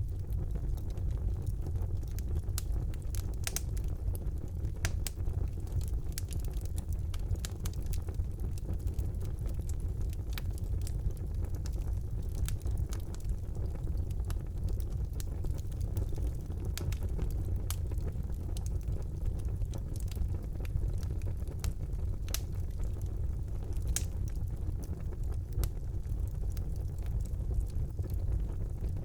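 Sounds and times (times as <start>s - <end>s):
burning wood crackling: 0.0s - 29.0s
fire rumbling: 0.0s - 29.0s.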